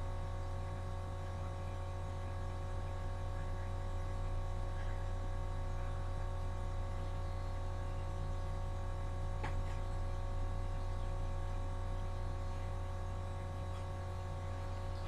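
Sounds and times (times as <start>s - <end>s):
steady hum of tones: 0.0s - 15.0s.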